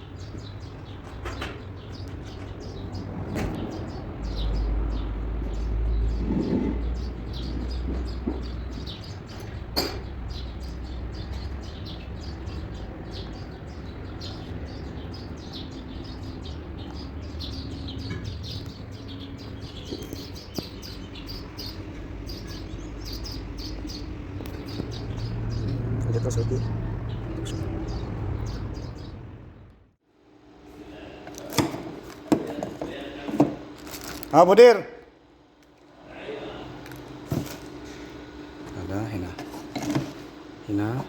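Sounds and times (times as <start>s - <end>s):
small birds chirping: 0.0s - 29.8s, 36.1s - 41.0s.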